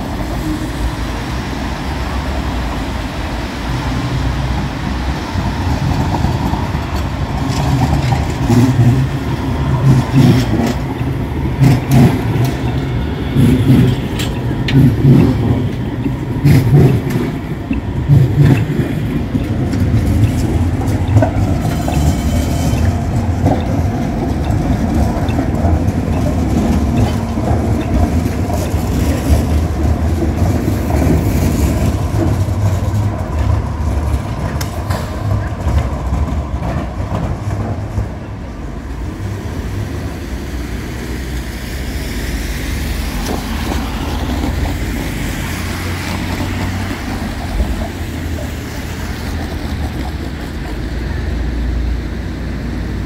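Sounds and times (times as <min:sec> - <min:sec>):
city traffic: 0:00.0 - 0:53.0
tram rumbling past: 0:00.0 - 0:53.0.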